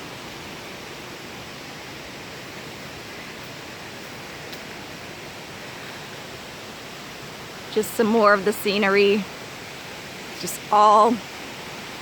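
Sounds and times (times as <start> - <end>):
stream and waterfall rushing: 0.0 - 12.0.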